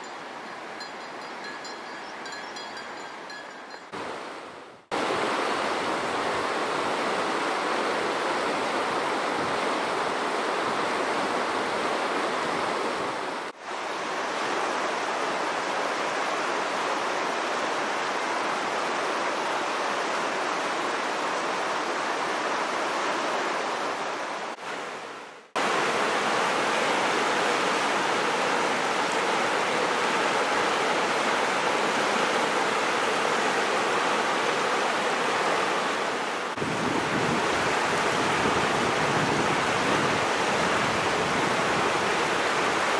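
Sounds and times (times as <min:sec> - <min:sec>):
river rushing over rapids: 0:00.0 - 0:42.9.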